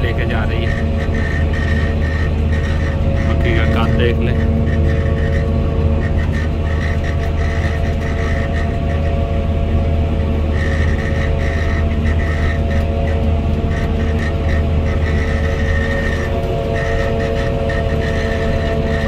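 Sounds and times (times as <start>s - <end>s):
harvester machinery drone: 0.0s - 19.0s
higher machine tone: 0.0s - 19.0s
mid-pitched whine: 0.0s - 19.0s.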